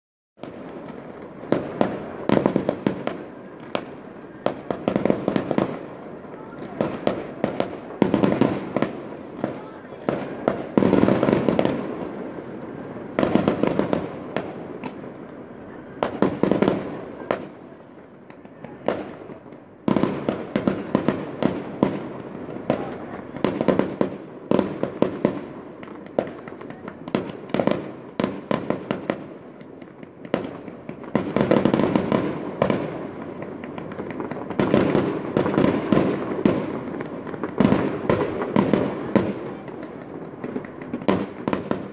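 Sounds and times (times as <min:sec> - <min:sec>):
fireworks bangs and crackles: 0:00.4 - 0:41.9.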